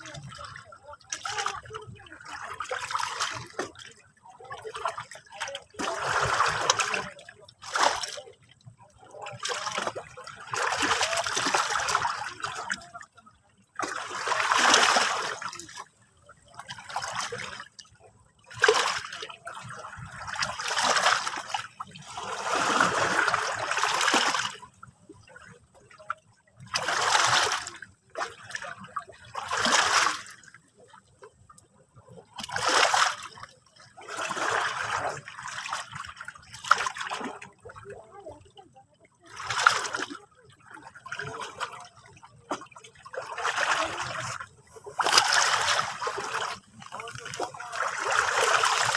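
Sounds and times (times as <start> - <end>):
sea waves lapping and splashing: 0.0 - 48.9.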